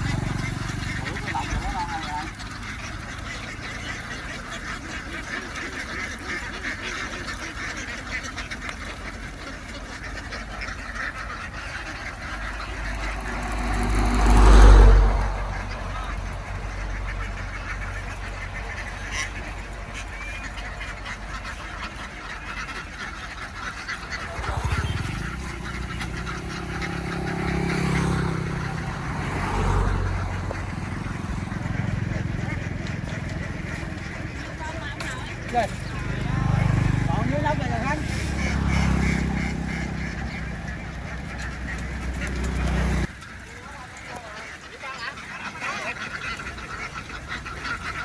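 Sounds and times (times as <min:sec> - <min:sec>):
ducks quacking: 0:00.0 - 0:48.0.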